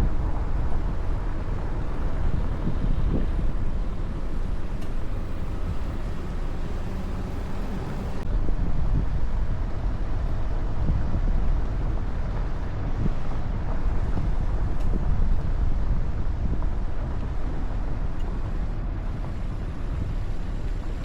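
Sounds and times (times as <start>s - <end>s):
vehicle rumble on road: 0.0s - 21.0s.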